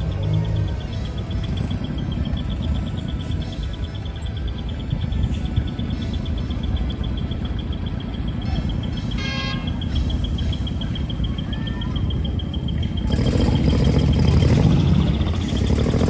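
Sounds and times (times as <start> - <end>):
truck engines rumbling: 0.0 - 16.0.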